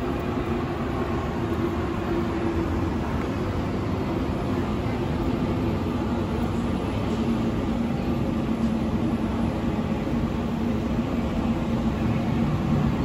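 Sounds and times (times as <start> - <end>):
faint mechanical hum: 0.0 - 13.0
outdoor urban rumble: 0.0 - 13.0.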